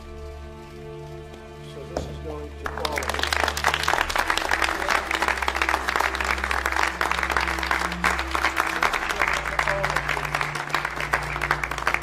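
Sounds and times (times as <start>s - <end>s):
low sustained music notes: 0.0s - 12.0s
people applauding: 2.4s - 12.0s.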